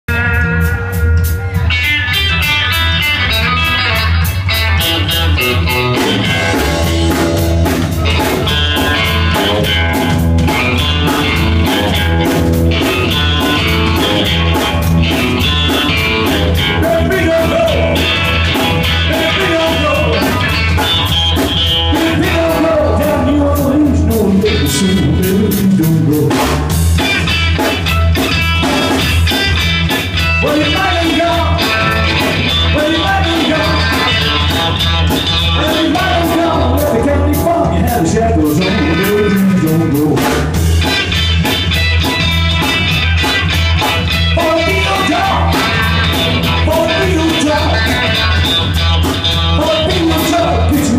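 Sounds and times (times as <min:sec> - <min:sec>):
guitar: 0:00.0 - 0:50.9
blues-rock band playing: 0:00.1 - 0:50.9
drum kit beat: 0:00.1 - 0:50.9.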